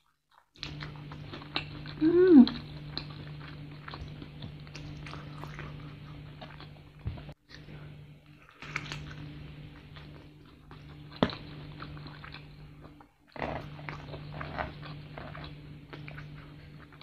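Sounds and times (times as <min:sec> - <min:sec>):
crunchy chewing: 0:00.0 - 0:17.0
steady low hum: 0:00.6 - 0:17.0.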